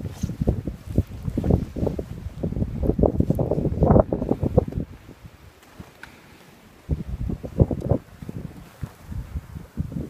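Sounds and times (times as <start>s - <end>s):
wind gusting across microphone: 0.0s - 10.0s.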